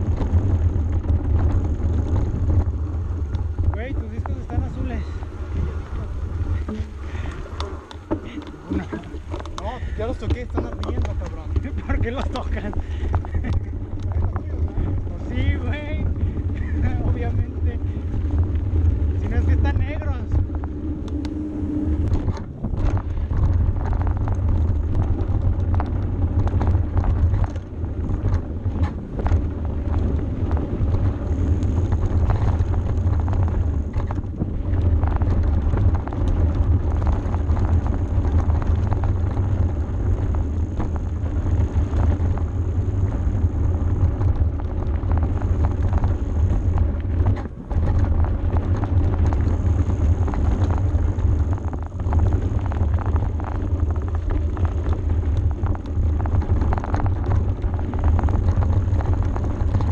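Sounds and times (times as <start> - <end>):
bike rattling over stones: 0.0 - 59.9
wind rumble on microphone: 0.0 - 59.9.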